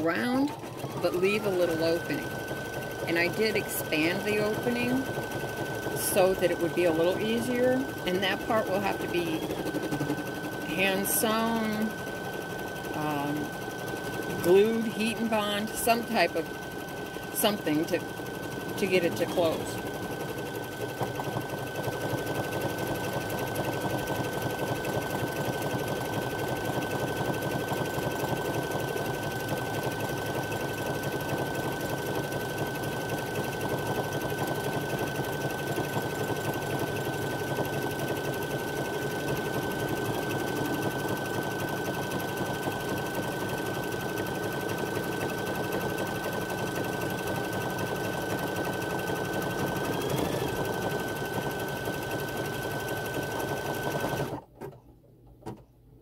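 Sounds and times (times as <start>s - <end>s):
embroidery machine stitching: 0.0s - 54.8s.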